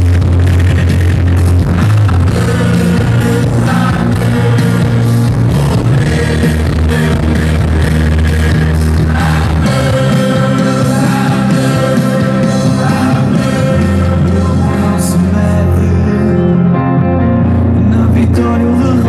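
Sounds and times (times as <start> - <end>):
heavy bass line: 0.0 - 19.0
loud music with singing: 0.0 - 19.0.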